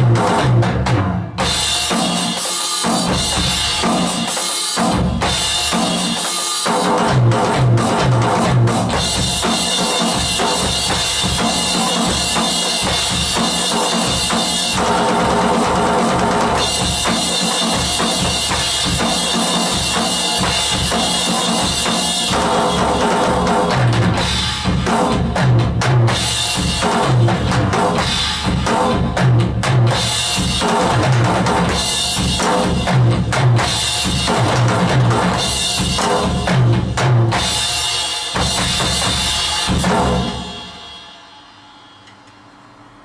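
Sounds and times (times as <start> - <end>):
electronic drum kit groove: 0.0 - 41.1.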